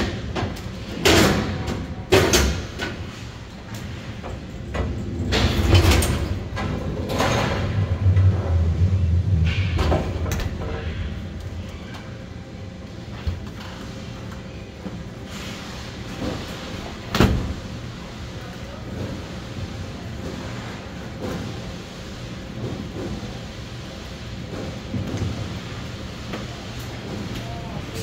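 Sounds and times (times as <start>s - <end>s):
low rink hum: 0.0s - 28.0s.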